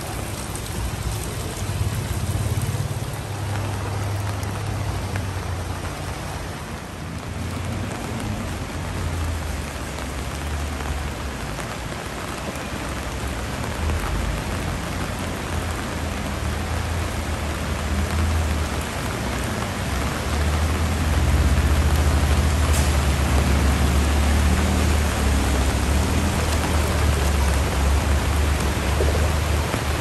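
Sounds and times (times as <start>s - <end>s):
heavy rain hiss: 0.0s - 30.0s
traffic driving through floodwater: 0.0s - 30.0s.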